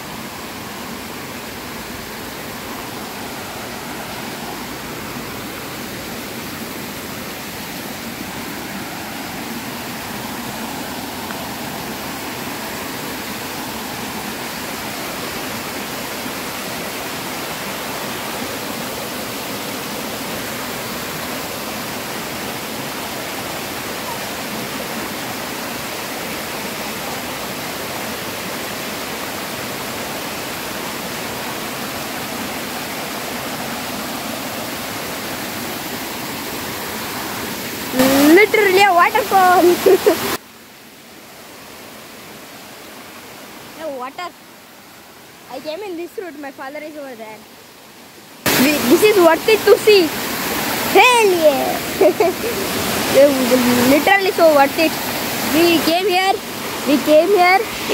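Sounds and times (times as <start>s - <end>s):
water rushing over rocks: 0.0s - 57.9s.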